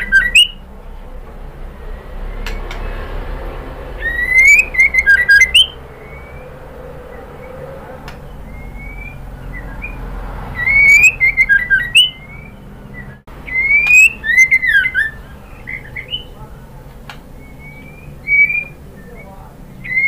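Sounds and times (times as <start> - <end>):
bird singing: 0.0 - 20.0.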